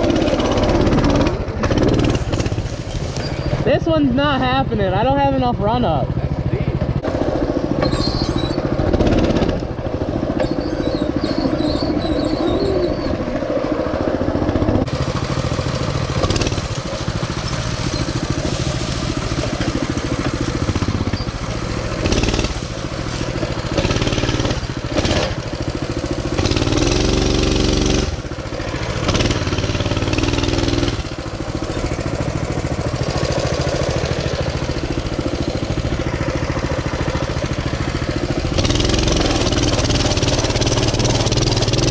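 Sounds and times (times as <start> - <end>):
mini bike engine revving: 0.0 - 41.9.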